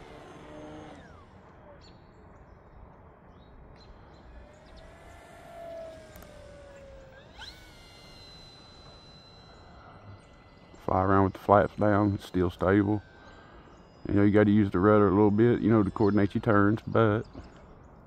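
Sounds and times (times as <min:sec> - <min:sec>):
rc plane motor whine: 0:00.0 - 0:02.0, 0:03.8 - 0:16.4.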